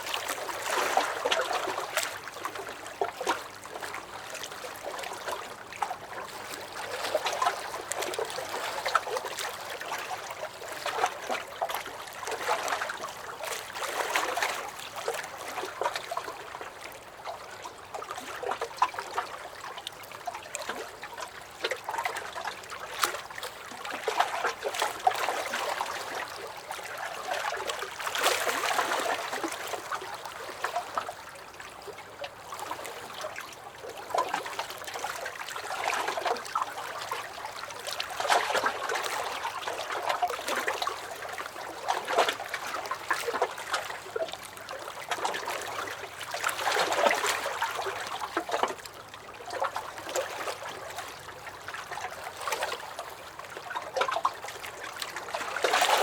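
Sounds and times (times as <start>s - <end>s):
waves lapping against dock: 0.0s - 56.0s.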